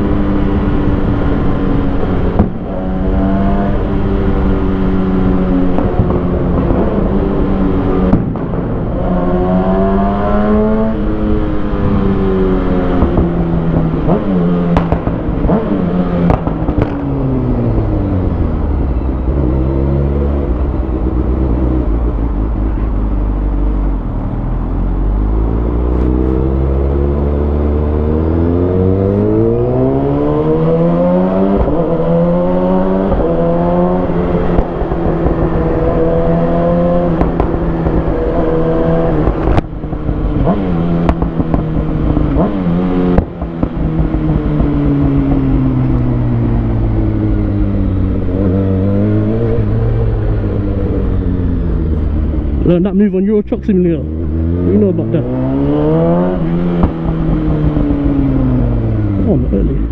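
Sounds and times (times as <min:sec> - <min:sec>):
motorcycle engine revving: 0:00.0 - 0:59.9
wind noise: 0:00.0 - 0:59.9.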